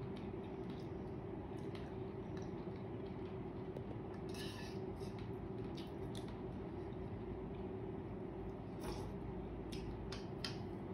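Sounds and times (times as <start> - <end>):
low room hum: 0.0 - 10.9.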